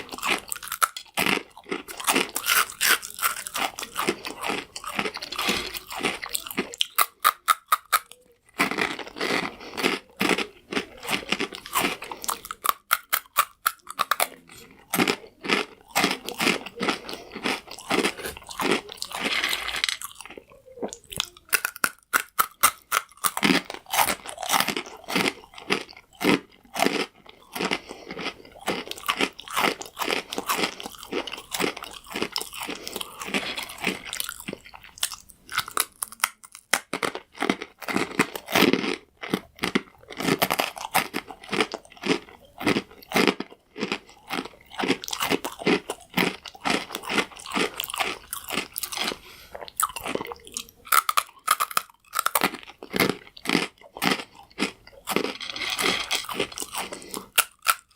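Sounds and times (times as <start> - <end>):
chewing crunchy croutons: 0.0 - 57.9.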